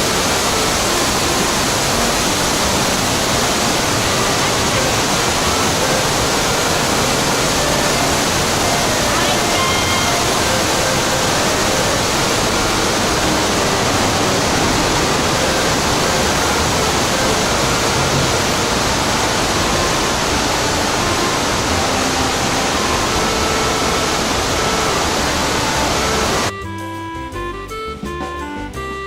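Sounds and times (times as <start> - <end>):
waterfall rushing: 0.0 - 26.5.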